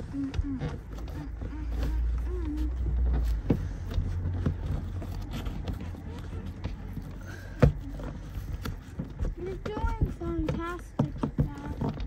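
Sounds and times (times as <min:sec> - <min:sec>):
cable handling and rubbing: 0:00.0 - 0:12.0.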